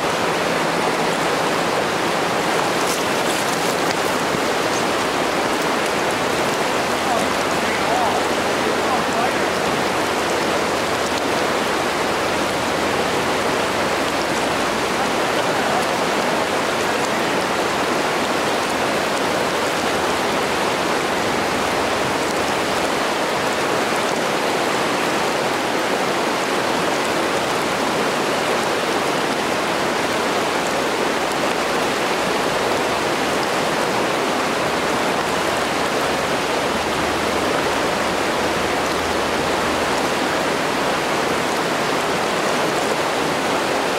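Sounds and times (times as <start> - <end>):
water rushing over rocks: 0.0 - 43.9.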